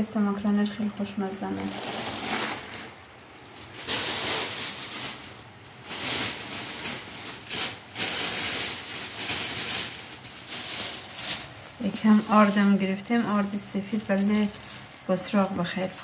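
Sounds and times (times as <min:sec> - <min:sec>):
rustling and rubbing handling noise: 0:01.4 - 0:16.0.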